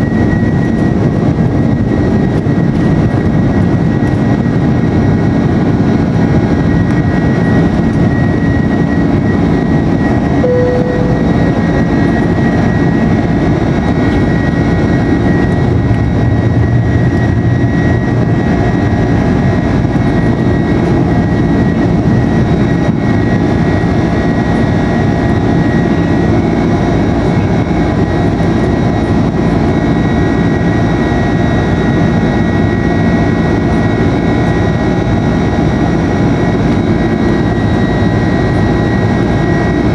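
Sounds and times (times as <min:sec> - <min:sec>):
jet engines at takeoff thrust: 0:00.0 - 0:39.9.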